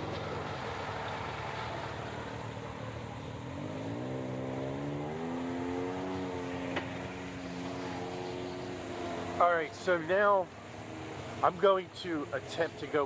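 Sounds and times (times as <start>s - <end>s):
vehicle engine speeding up: 0.0s - 11.5s.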